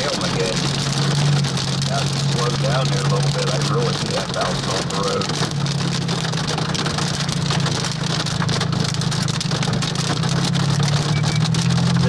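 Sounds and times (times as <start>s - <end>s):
car engine and road drone: 0.0s - 12.0s
hail hitting car roof: 0.0s - 12.0s.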